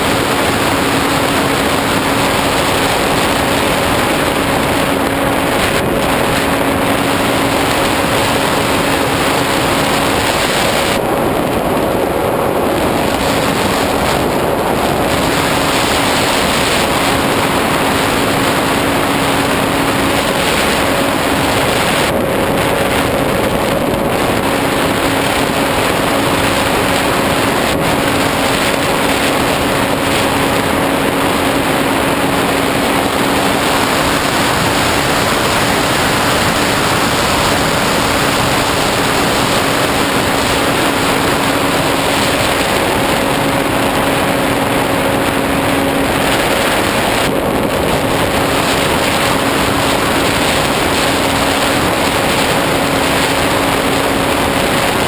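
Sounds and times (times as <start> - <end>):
airflow rushing over camera: 0.0 - 55.0
electric motor and propeller hum: 0.0 - 55.0.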